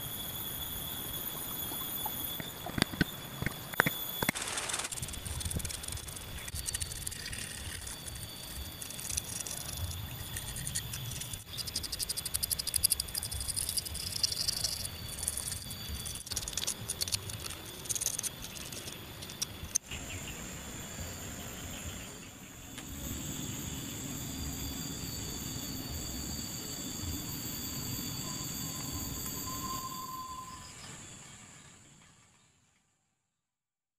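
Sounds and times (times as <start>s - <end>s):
insects chirping and trilling: 0.0s - 32.6s.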